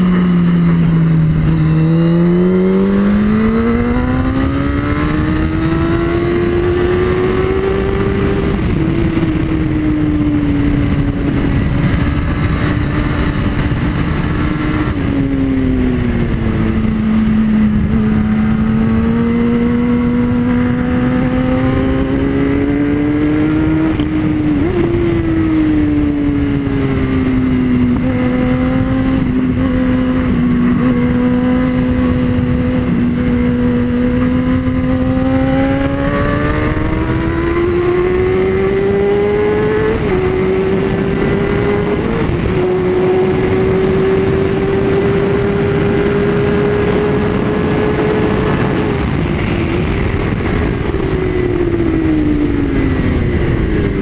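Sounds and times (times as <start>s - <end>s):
motorcycle engine at high revs: 0.0s - 54.0s
wind rush: 0.0s - 54.0s.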